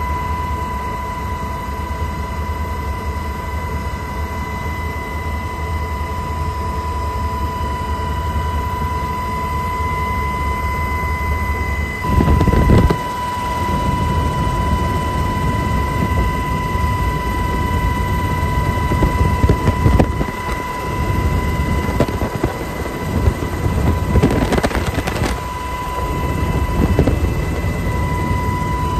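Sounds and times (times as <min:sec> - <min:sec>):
helicopter rotor and engine noise: 0:00.0 - 0:28.9
high whine: 0:00.0 - 0:28.9.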